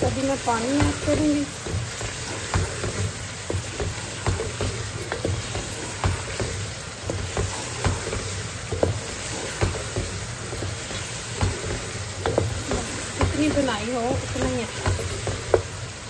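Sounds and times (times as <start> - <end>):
wooden spoon scraping pot: 0.0 - 15.8
chicken sizzling in oil: 0.0 - 16.0.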